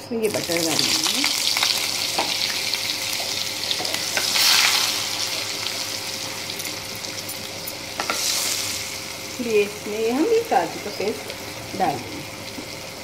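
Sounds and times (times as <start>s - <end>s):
butter sizzling in oil: 0.2s - 13.0s.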